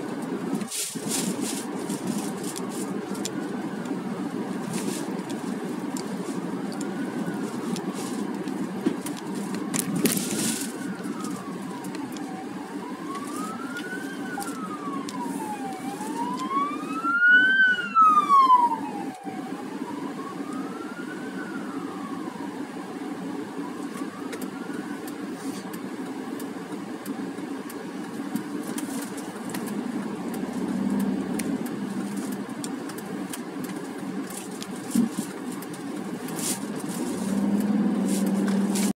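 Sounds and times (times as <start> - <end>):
ambulance siren wailing: 0.0 - 26.7, 27.5 - 33.2, 33.8 - 39.0
car engine and road noise: 0.0 - 39.0.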